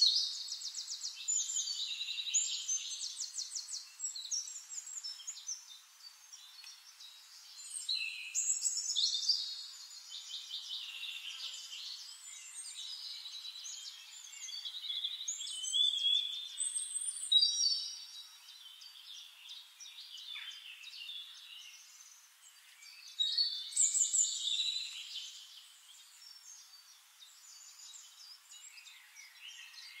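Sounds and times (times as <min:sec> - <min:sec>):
songbirds chirping and whistling: 0:00.0 - 0:30.0.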